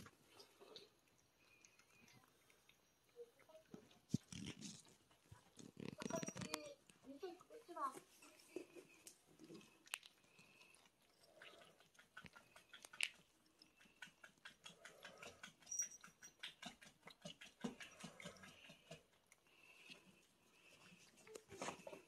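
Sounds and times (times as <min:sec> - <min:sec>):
cats crunching dry food: 0:00.0 - 0:07.4, 0:08.2 - 0:22.0.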